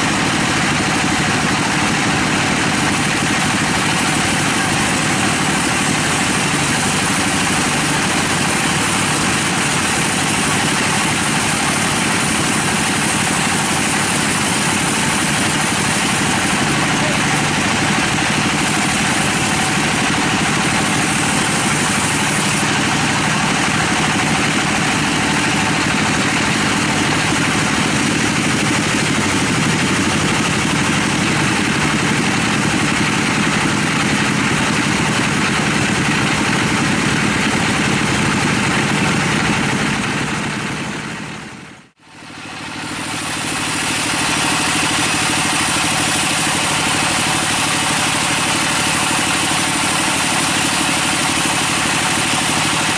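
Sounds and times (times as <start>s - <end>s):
band saw cutting wood: 0.0s - 40.9s, 42.2s - 52.9s.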